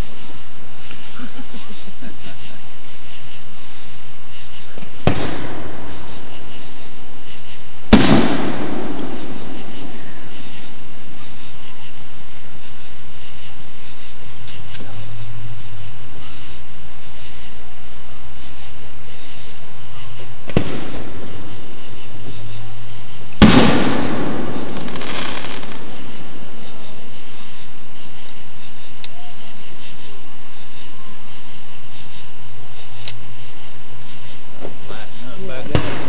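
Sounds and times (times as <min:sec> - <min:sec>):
fireworks bangs: 0:00.0 - 0:17.6, 0:18.3 - 0:30.8, 0:31.4 - 0:36.0
night insects chirping: 0:00.0 - 0:36.0.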